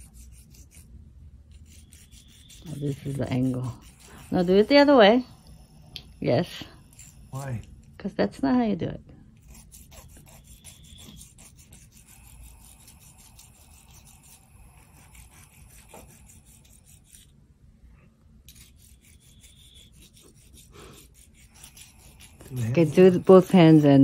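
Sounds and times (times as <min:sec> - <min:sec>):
metal nail file rasping on claws: 0:00.0 - 0:00.9, 0:01.5 - 0:08.0, 0:09.4 - 0:17.4, 0:18.4 - 0:24.0.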